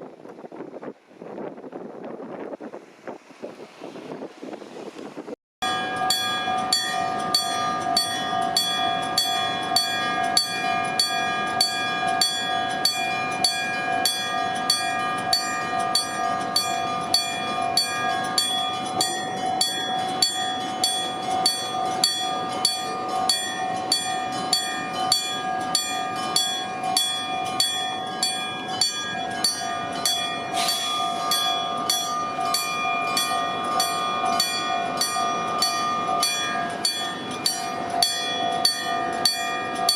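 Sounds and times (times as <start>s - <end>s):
level crossing warning bell: 5.6s - 39.9s.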